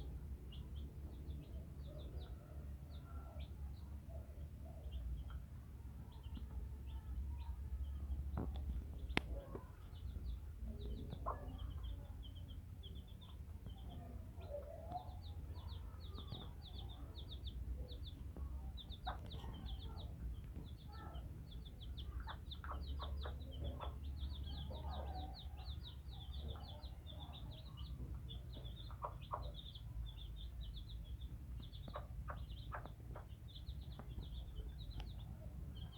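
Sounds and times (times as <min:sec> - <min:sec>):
chick peeping: 0:00.0 - 0:35.9.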